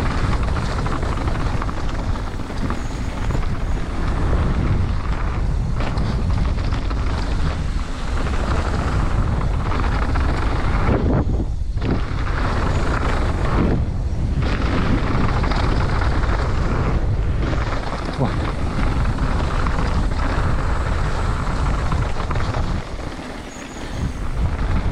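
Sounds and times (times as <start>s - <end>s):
mountain bike rumbling and rattling: 0.0s - 24.9s
wind buffeting microphone: 0.0s - 24.9s.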